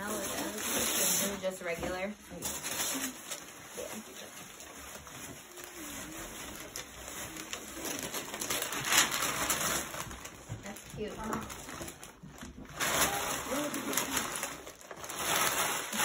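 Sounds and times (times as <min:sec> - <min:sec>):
paper bag crinkling and tearing: 0:00.0 - 0:16.0.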